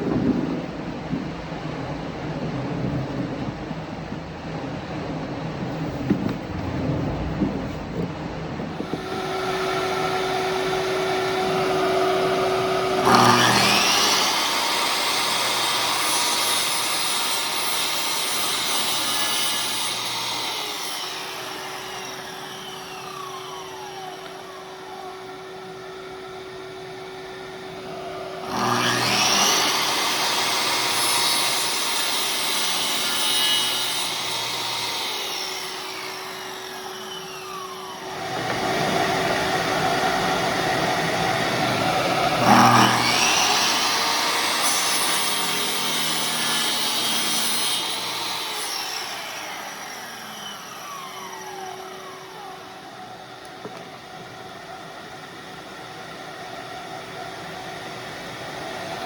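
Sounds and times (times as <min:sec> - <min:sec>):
power tool motor whining: 0:08.7 - 0:59.0.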